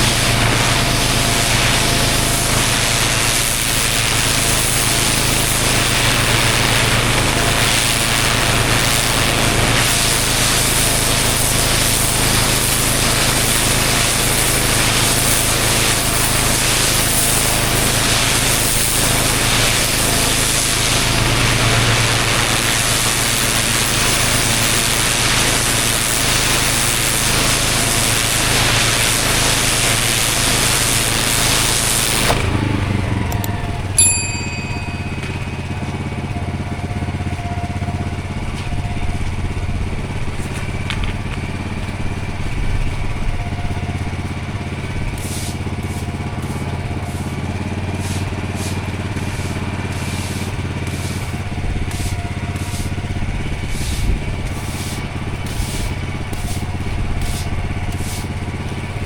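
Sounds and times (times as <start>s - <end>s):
pressure washer spray hissing: 0.0s - 37.1s, 37.9s - 59.0s
engine humming: 0.0s - 59.0s.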